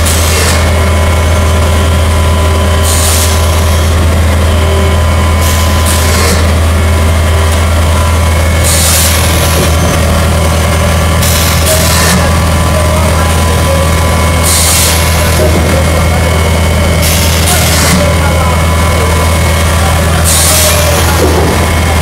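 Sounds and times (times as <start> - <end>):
machine low hum: 0.0 - 22.0.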